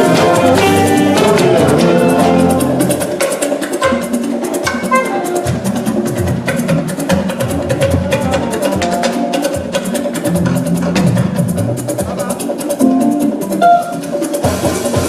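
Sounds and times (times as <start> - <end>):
drums and hand percussion: 0.0 - 15.0.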